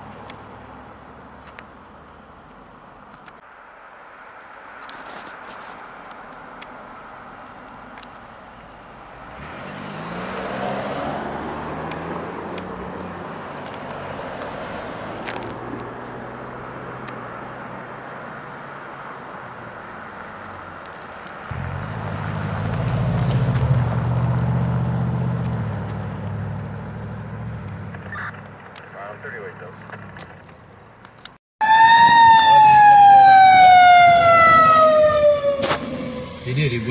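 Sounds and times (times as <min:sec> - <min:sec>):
vehicle engines passing: 0:00.0 - 0:36.9.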